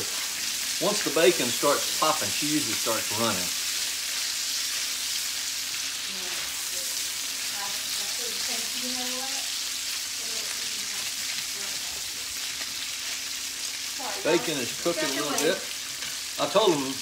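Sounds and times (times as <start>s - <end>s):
bacon sizzling in a skillet: 0.0s - 17.0s
spatula stirring in a skillet: 0.0s - 17.0s.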